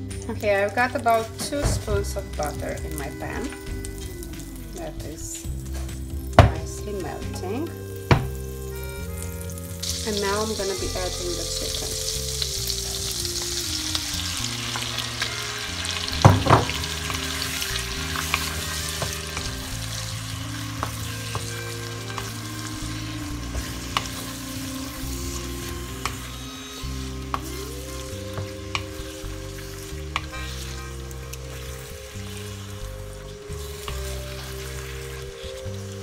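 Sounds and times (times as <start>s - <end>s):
soft background music: 0.0s - 36.0s
chicken sizzling in a frying pan: 0.3s - 36.0s.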